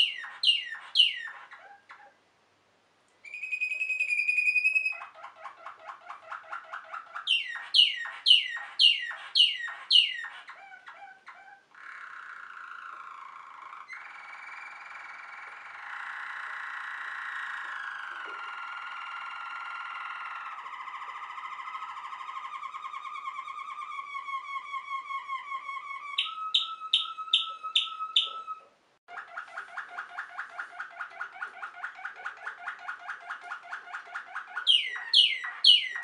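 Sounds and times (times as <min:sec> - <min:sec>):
canary singing: 0:00.0 - 0:02.2, 0:03.2 - 0:36.0.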